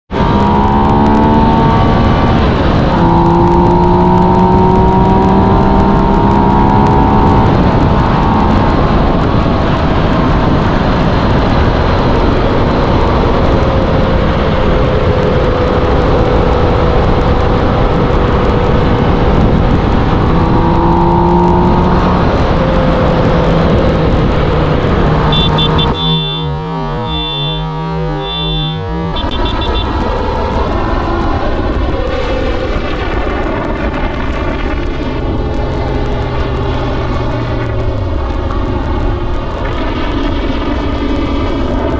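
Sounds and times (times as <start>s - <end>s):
motorcycle engine running: 0.1s - 41.9s
wind on microphone: 0.1s - 41.9s.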